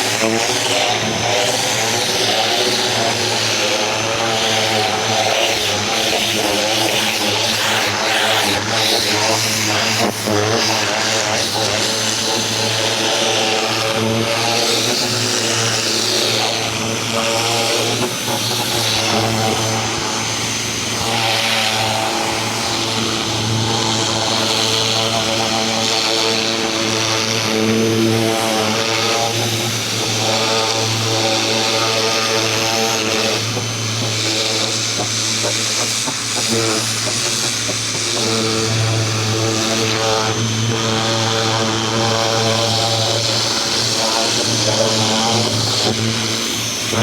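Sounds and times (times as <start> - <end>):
pressure washer humming: 0.0 - 47.0
water jet spraying a fence: 0.0 - 47.0.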